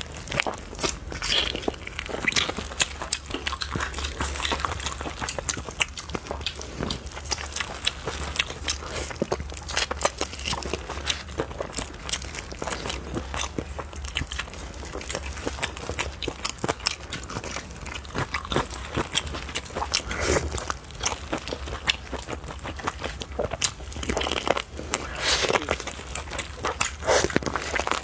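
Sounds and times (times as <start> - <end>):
wet chewing and smacking: 0.0 - 28.0.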